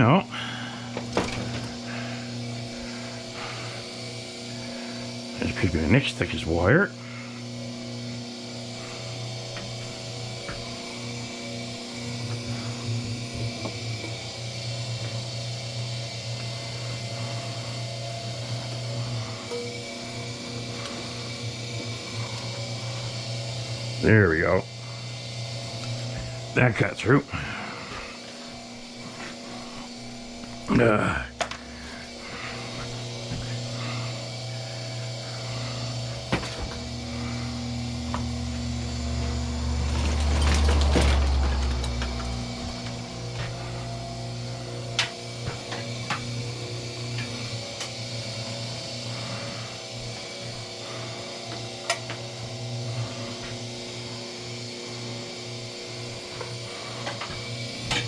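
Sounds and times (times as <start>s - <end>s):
machine motor hum: 0.0s - 58.0s.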